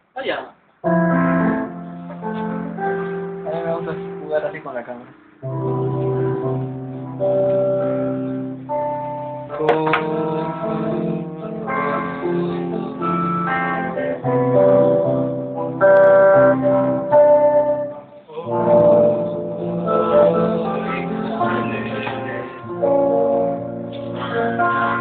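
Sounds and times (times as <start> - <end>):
guitar chords: 0.8 - 25.0.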